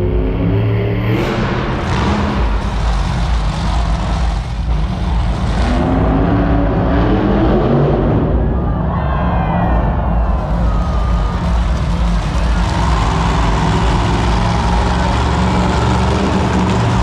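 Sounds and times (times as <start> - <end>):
monster truck engine revving: 0.0 - 8.6, 9.7 - 17.0.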